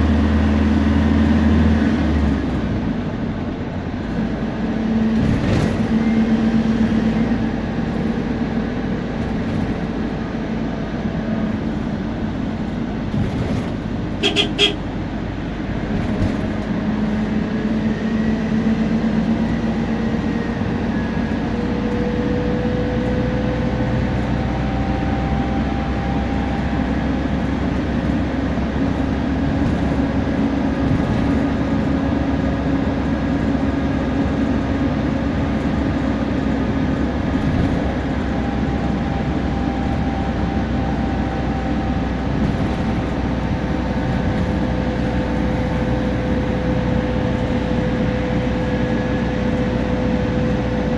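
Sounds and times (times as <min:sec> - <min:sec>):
bus engine drone: 0:00.0 - 0:50.9
drivetrain whine: 0:00.0 - 0:50.9.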